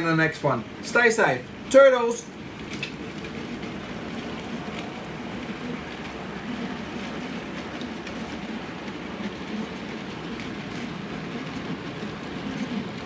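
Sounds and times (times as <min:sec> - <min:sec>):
model train motors whirring: 0:02.4 - 0:13.0.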